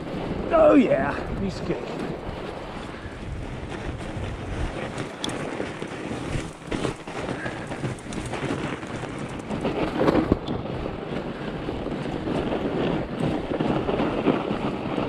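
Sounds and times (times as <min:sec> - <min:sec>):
bike tyres crunching over snow: 0:00.0 - 0:15.0
wind rumbling on microphone: 0:00.0 - 0:15.0.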